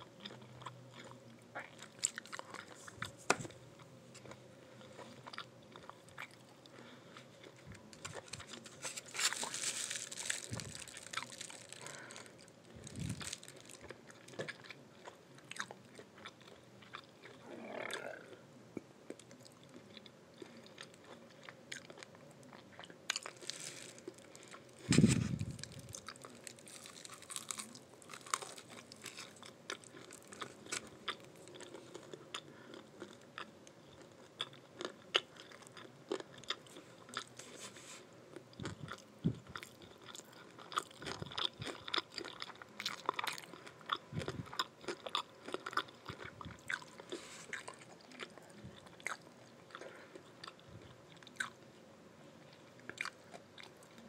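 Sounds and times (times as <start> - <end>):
crunchy chewing: 0.0 - 18.4, 19.1 - 51.7, 52.5 - 54.0.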